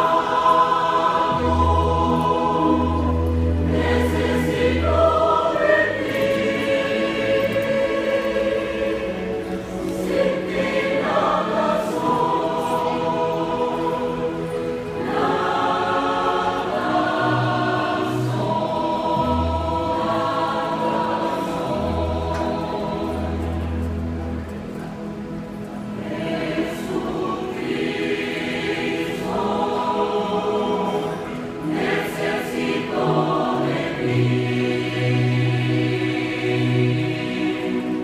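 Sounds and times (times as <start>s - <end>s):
choir singing a hymn: 0.0s - 38.0s.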